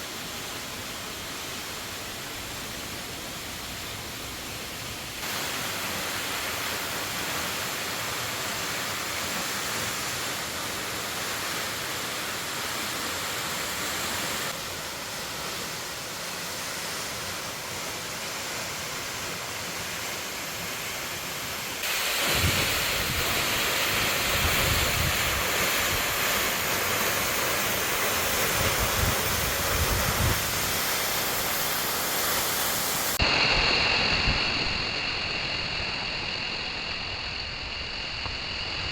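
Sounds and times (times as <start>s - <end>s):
waterfall roaring: 0.0s - 38.2s.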